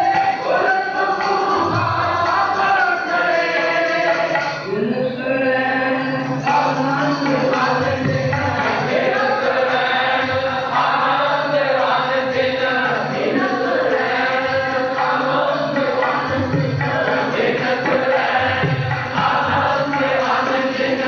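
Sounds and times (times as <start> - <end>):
harmonium chords: 0.0 - 21.0.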